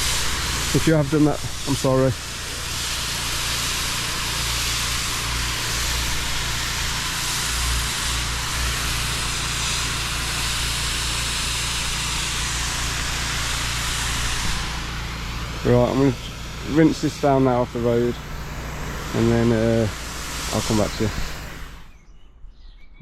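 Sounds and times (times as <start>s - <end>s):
pressure washer engine hum: 0.0s - 21.9s
water spray hissing: 0.0s - 21.9s.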